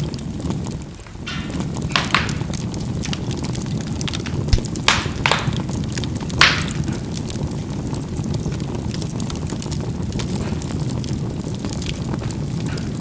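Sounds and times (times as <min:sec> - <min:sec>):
low rush of flame: 0:00.0 - 0:13.0
sharp pops of charcoal: 0:00.0 - 0:13.0
small crackles of charcoal: 0:00.0 - 0:13.0.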